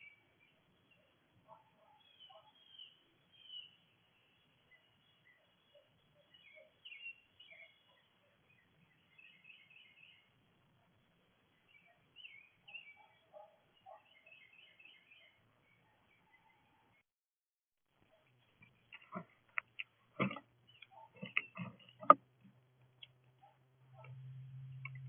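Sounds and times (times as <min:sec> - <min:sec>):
songbirds chirping: 0:00.0 - 0:17.0, 0:17.9 - 0:25.0.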